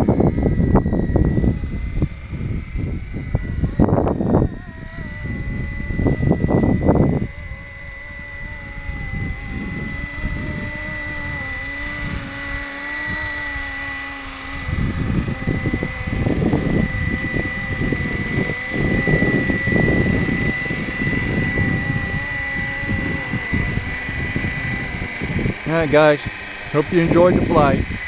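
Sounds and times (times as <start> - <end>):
rc helicopter motor whine: 0.0 - 28.0
wind buffeting microphone: 0.0 - 28.0.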